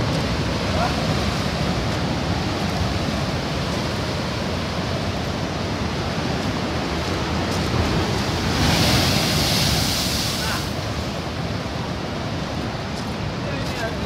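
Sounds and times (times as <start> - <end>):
surf breaking over rocks: 0.0 - 12.0.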